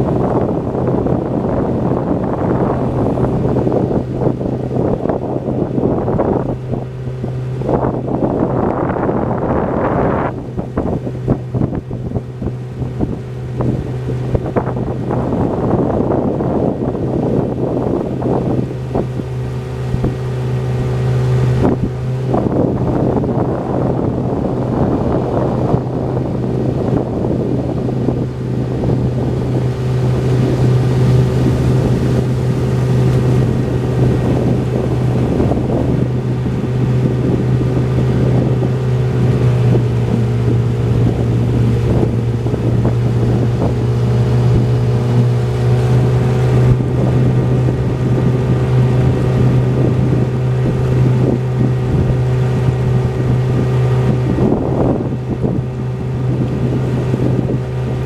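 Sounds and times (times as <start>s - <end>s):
boat motor droning: 0.0s - 58.0s
wind buffeting microphone: 0.0s - 58.0s.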